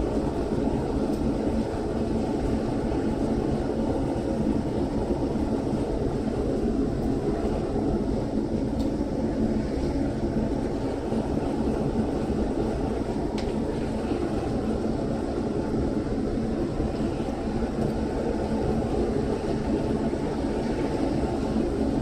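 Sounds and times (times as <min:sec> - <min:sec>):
furnace burner roaring: 0:00.0 - 0:22.0.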